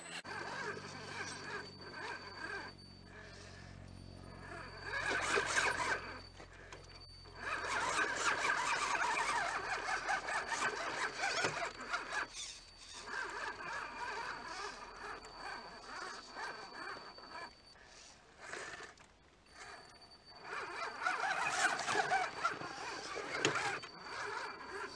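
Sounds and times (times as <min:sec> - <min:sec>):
toy truck electric motor whining: 0:00.0 - 0:24.9.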